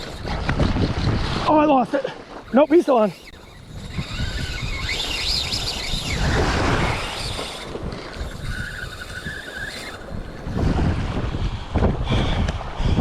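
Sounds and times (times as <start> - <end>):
thin whirring: 0.0 - 12.5
sea: 0.0 - 13.0
wind buffeting microphone: 0.0 - 13.0.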